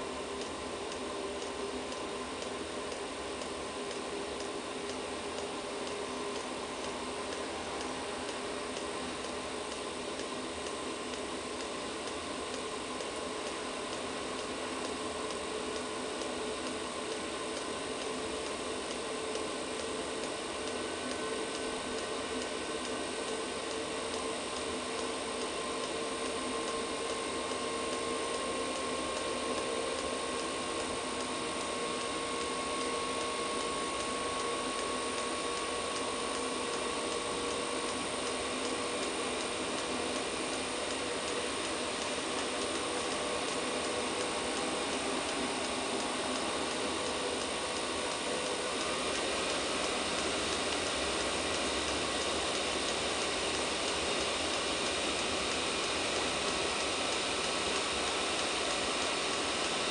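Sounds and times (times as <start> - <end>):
heater fan whirring: 0.0 - 59.9.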